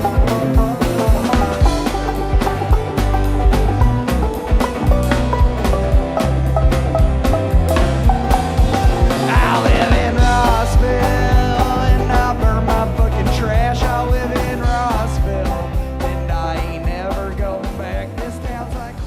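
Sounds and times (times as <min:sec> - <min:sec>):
rock music: 0:00.0 - 0:19.0.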